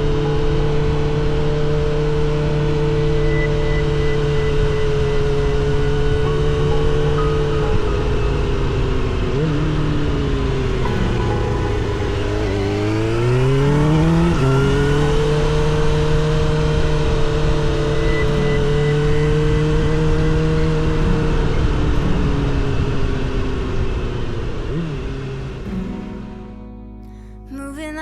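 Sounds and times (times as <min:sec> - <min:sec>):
motorcycle engine accelerating: 0:00.0 - 0:26.6.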